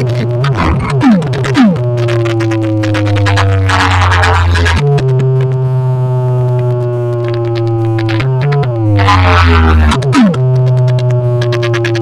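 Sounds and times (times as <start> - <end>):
electronic music over loudspeakers: 0.0 - 12.0
sliding low synth bass: 0.0 - 12.0.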